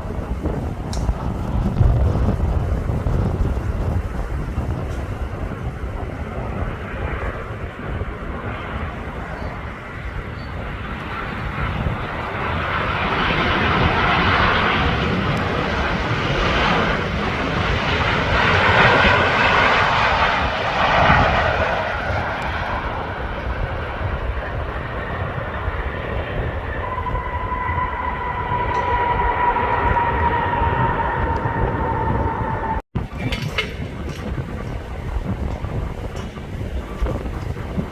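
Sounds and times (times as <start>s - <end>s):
jet engines passing by: 0.0s - 37.9s
steady engine whine: 0.0s - 37.9s.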